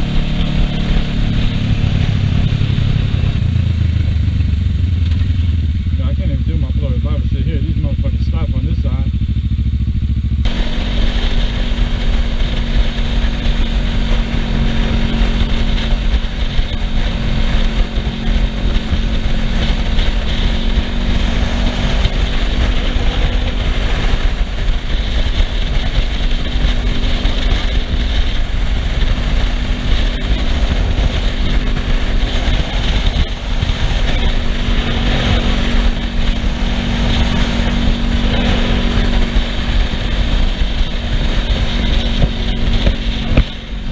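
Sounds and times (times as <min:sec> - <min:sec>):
motorcycle engine running: 0:00.0 - 0:43.9
wind and road rush: 0:00.0 - 0:43.9.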